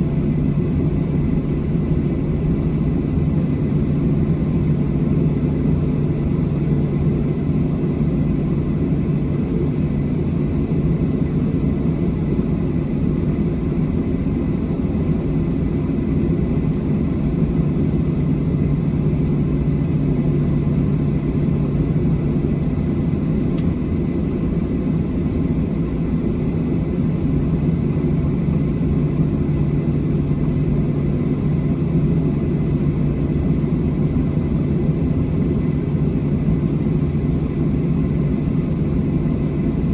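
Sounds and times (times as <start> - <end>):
faint steady whines: 0.0 - 39.9.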